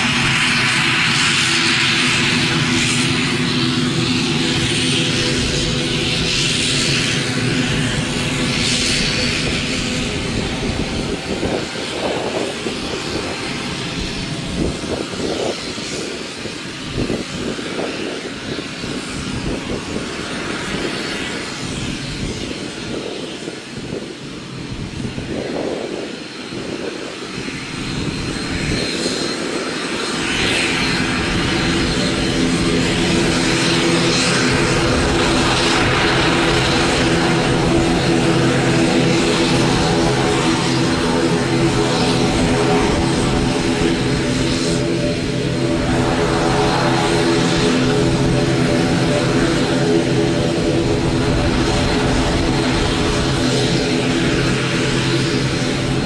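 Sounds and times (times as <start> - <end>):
high turbine whine: 0.0 - 56.0
propeller drone: 0.0 - 56.0.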